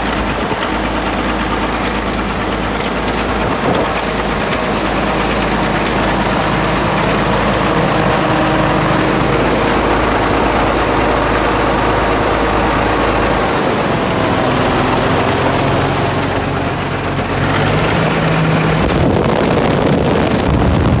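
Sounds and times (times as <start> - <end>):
crawler tractor engine running: 0.0 - 21.0.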